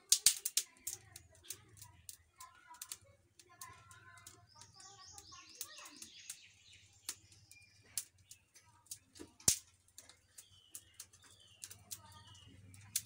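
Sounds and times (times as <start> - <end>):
twigs cracking and snapping: 0.0 - 13.0.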